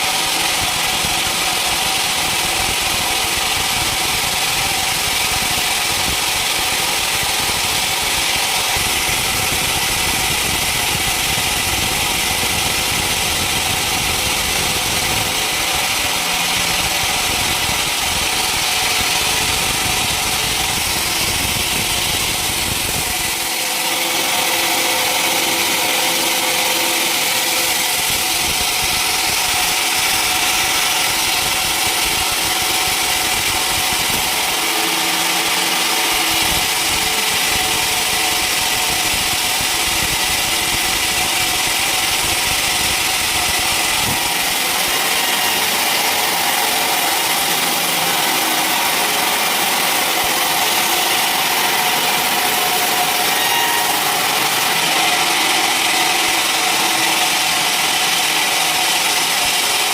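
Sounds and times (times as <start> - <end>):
saw blade cutting wood: 0.0 - 59.9
sawmill engine running: 0.0 - 59.9.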